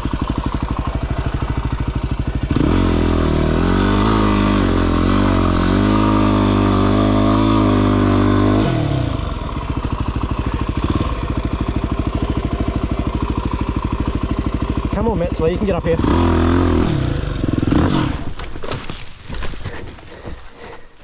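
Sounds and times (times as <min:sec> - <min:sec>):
dirt bike engine revving: 0:00.2 - 0:21.0.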